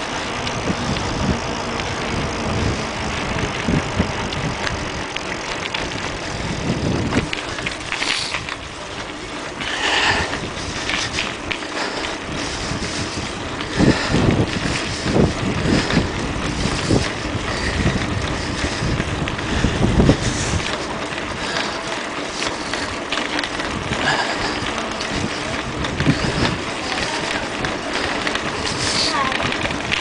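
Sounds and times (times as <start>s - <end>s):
bicycle rattling over paving: 0.0s - 30.0s
wind buffeting microphone: 0.0s - 30.0s.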